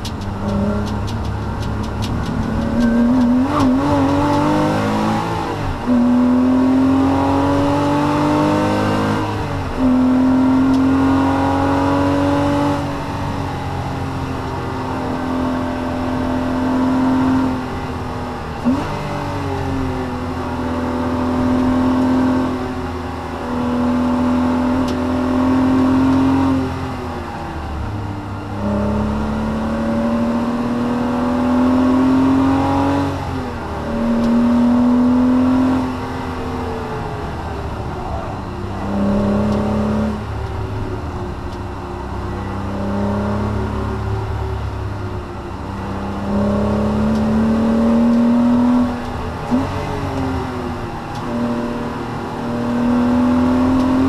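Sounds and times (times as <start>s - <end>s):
car engine accelerating: 0.0s - 54.0s
tyre and road rumble: 0.0s - 54.0s.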